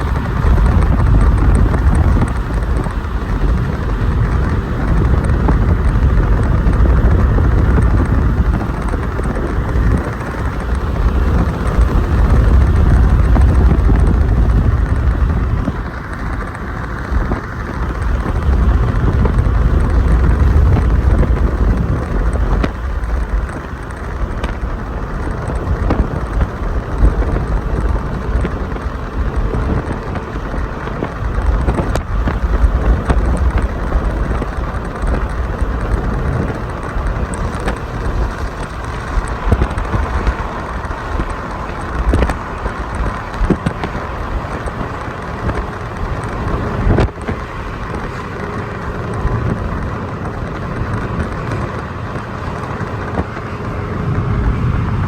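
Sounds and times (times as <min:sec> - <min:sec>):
deep low rumble: 0:00.0 - 0:55.0
steady rain: 0:00.0 - 0:55.0.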